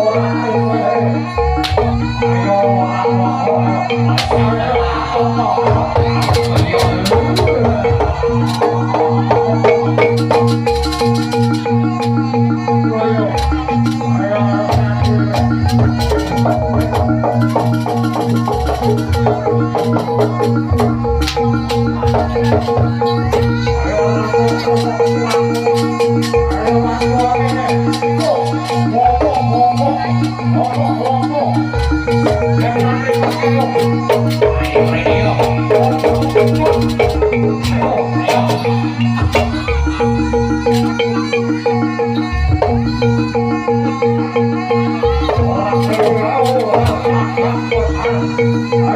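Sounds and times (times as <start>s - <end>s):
gongs and metallophones melody: 0.0s - 48.9s.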